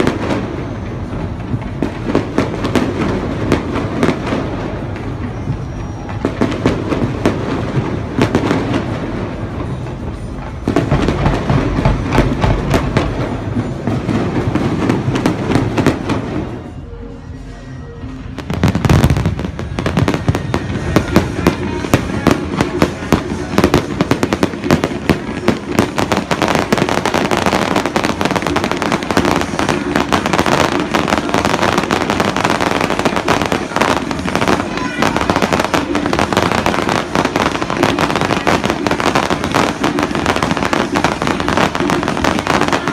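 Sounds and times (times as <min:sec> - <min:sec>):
fireworks cracks and bangs: 0:00.0 - 0:16.8, 0:18.2 - 0:42.9
continuous rumble: 0:00.0 - 0:42.9.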